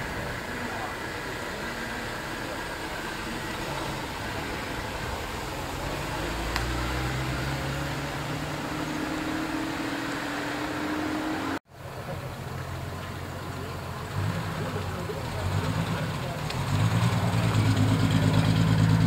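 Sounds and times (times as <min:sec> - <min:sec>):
car engine pulling away: 0:00.0 - 0:19.0.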